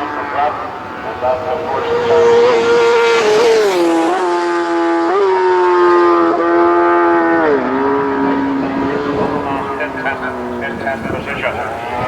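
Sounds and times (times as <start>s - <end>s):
racing motorcycle passing at speed: 0.0s - 12.0s.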